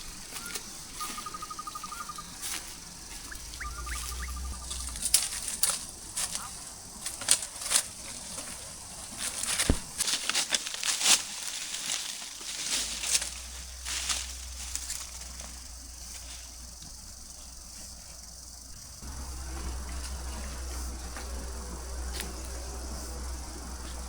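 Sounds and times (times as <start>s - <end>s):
rustling and scraping of leaves: 0.0s - 24.0s.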